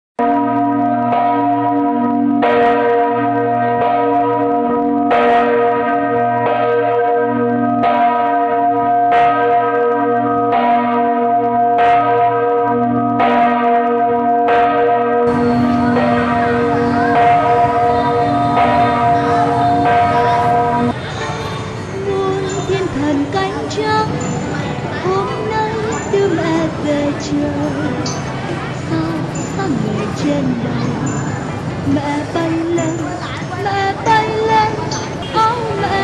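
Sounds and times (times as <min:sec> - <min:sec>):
church bell ringing: 0:00.2 - 0:36.0.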